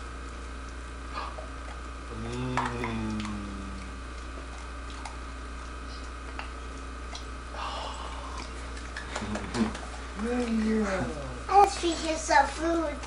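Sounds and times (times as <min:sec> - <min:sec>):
camcorder hum and hiss: 0:00.0 - 0:13.0.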